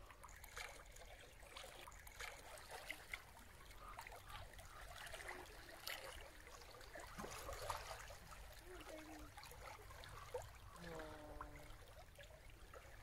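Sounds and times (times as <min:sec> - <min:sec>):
small splashy ticks: 0:00.0 - 0:10.6
water lapping and trickling: 0:00.0 - 0:13.0.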